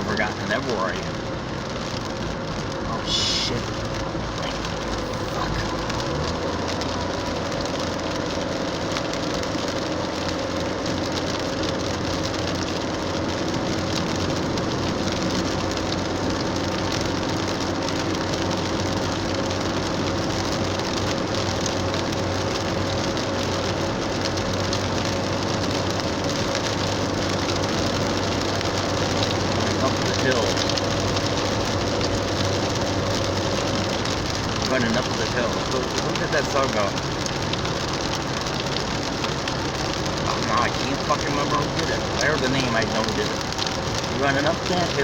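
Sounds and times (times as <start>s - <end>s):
low engine hum: 0.0s - 45.0s
rain pouring on a car: 0.0s - 45.0s
tyres on a wet road: 0.0s - 45.0s.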